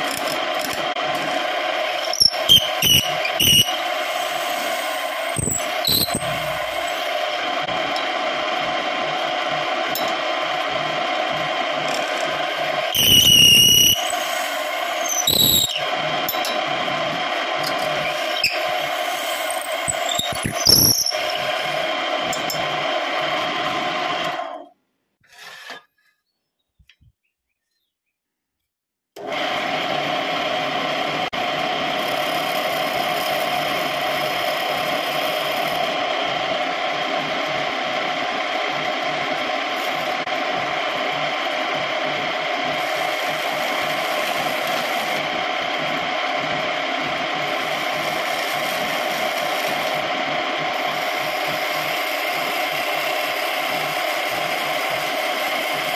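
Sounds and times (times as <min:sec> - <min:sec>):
wood lathe cutting wood: 0:00.0 - 0:24.6, 0:29.2 - 0:55.9.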